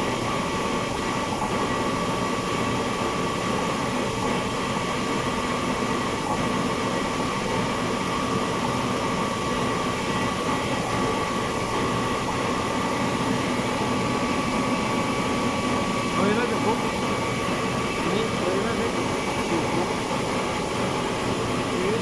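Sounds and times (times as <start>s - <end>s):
air compressor running: 0.0s - 22.0s
high machine whine: 0.0s - 22.0s.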